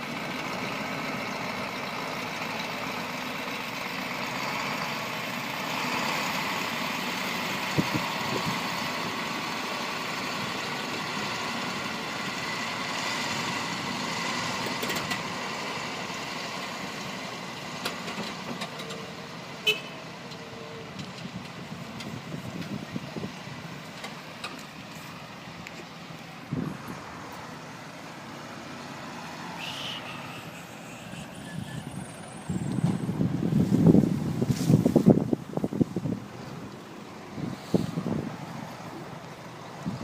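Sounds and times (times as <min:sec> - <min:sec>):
heavy machinery engine running: 0:00.0 - 0:40.0.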